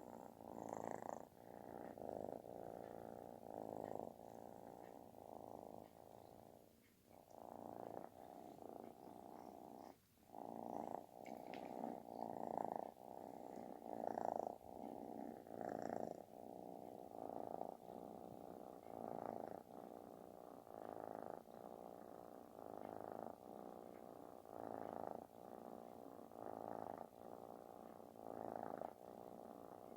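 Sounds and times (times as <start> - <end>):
kitten purring loudly: 0.0 - 29.9.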